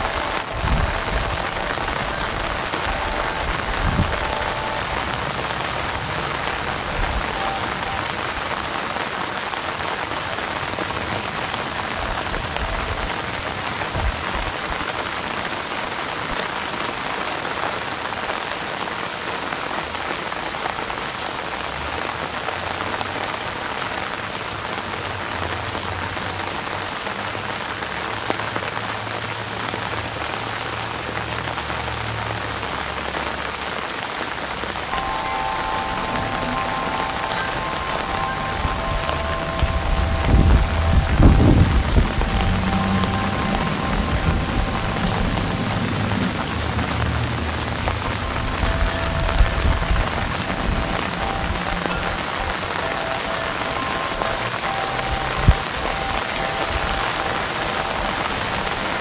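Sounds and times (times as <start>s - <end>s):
rain on leaves: 0.0s - 59.0s.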